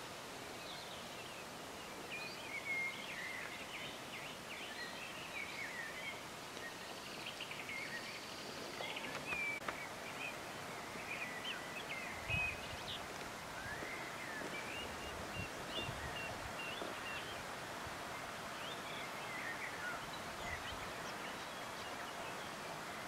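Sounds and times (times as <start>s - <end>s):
steady rustling hiss: 0.0s - 23.0s.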